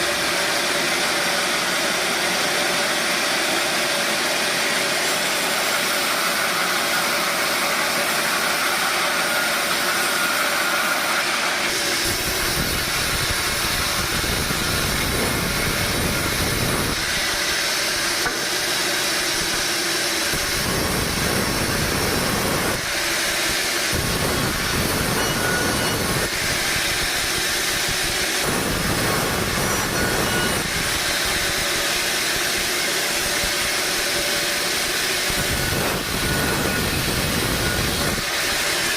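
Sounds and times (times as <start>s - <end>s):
saw blade cutting log: 0.0s - 38.9s
sawmill saw whining: 0.0s - 38.9s.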